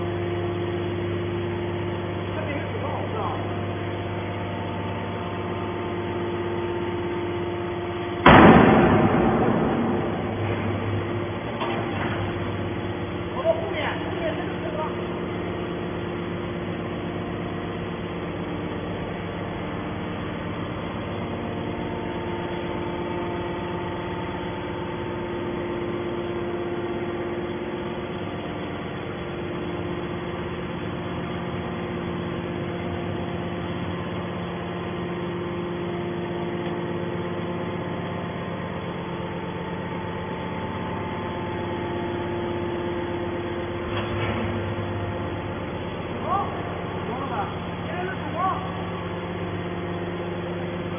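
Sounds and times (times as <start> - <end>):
hydraulic pump motor humming: 0.0 - 50.9.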